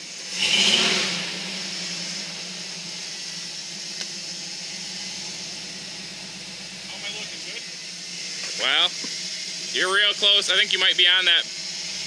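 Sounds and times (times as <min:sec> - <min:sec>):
engine running at low speed: 0:00.0 - 0:12.0
constant hiss: 0:01.8 - 0:12.0.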